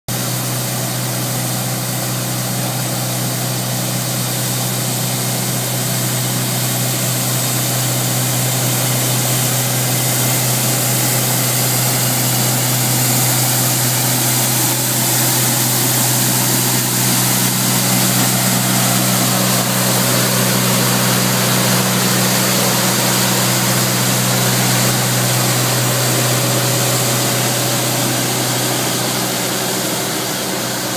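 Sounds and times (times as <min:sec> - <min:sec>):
street sweeper engine and blower: 0:00.1 - 0:30.9.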